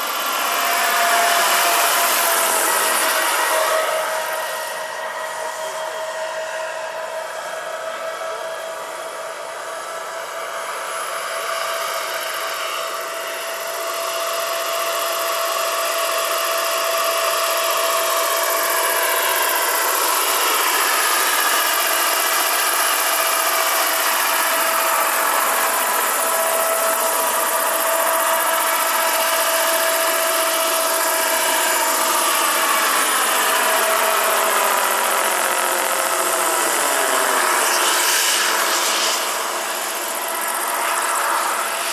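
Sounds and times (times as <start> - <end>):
model helicopter turbine whine: 0.0 - 41.9.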